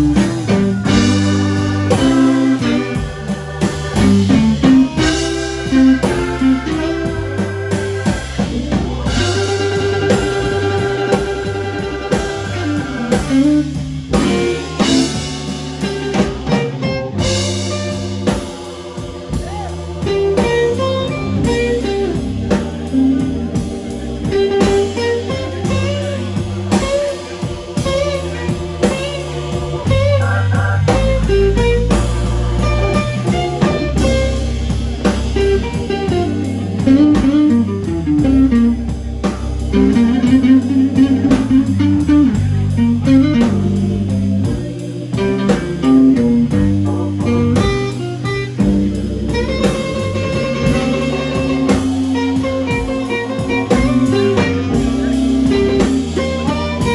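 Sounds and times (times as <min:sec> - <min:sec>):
lead electric guitar bending notes: 0:00.0 - 0:56.9
live blues band playing: 0:00.0 - 0:56.9.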